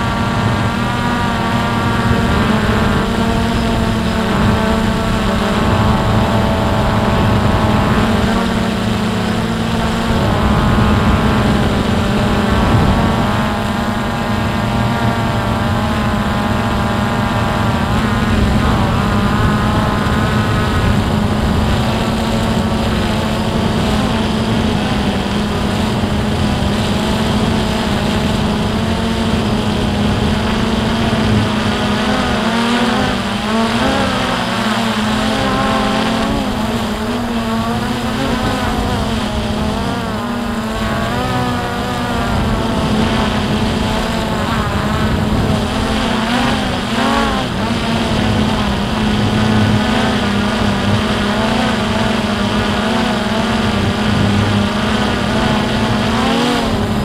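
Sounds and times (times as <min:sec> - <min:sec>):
drone motors whining: 0:00.0 - 0:57.0.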